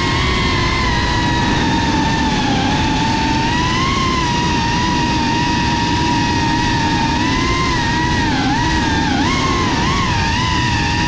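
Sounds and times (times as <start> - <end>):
low rushing noise: 0.0 - 11.0
quadcopter motors whining: 0.0 - 11.0.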